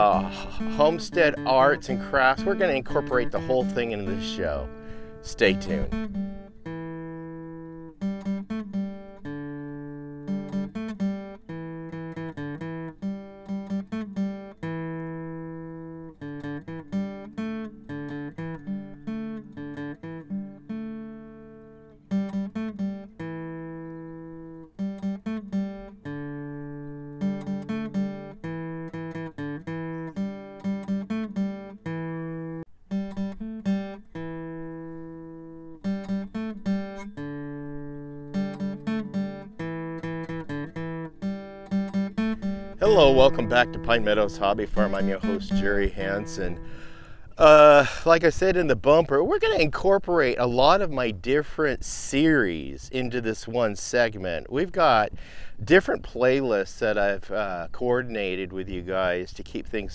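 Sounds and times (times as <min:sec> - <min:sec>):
acoustic guitar picking melody: 0:00.0 - 0:59.9.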